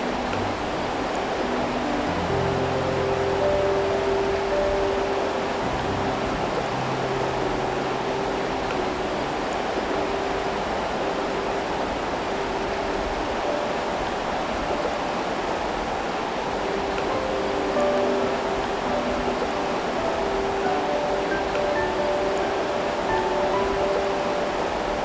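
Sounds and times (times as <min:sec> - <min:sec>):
rushing floodwater: 0:00.0 - 0:25.0.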